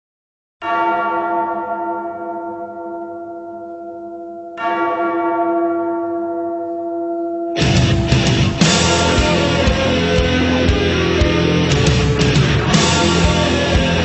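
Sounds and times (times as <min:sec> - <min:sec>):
bell tolling: 0:00.6 - 0:14.0.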